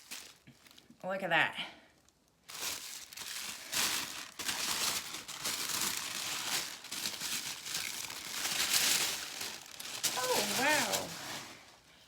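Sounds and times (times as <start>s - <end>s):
tissue paper crinkling: 0.0s - 0.9s, 2.0s - 12.0s.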